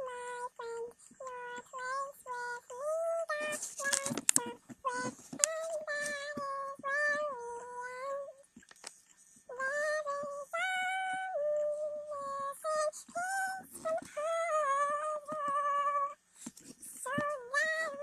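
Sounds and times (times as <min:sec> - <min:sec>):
girl singing in high voice: 0:00.0 - 0:08.6, 0:09.4 - 0:16.2, 0:16.8 - 0:18.0.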